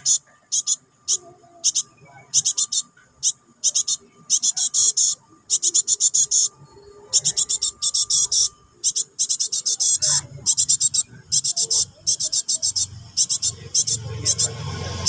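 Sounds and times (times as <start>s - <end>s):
young birds begging calls: 0.0s - 15.0s.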